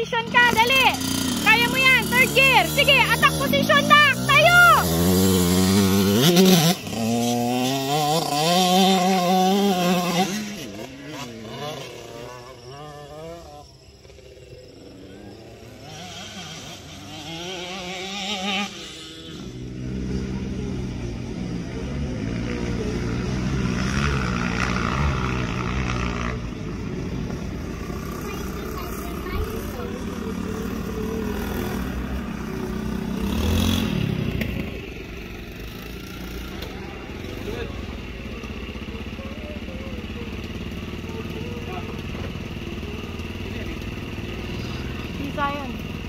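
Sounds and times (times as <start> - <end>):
dirt bike engine revving: 0.0 - 46.0
lower motorcycle engine: 0.0 - 46.0.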